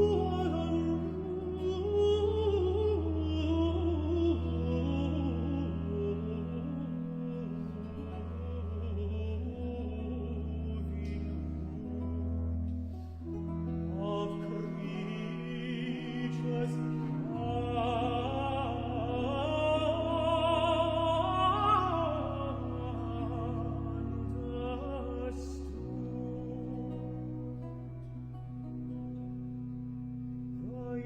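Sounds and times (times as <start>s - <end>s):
countertenor singing: 0.0s - 31.0s
sustained continuo bass notes: 0.0s - 31.0s.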